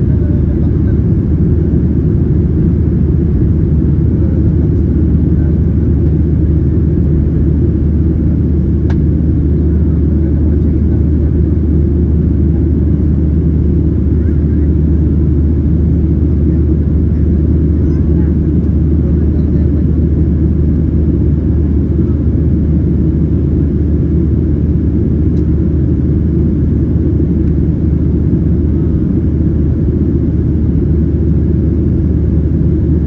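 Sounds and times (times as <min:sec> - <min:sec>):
airplane cabin engine roar: 0:00.0 - 0:33.0.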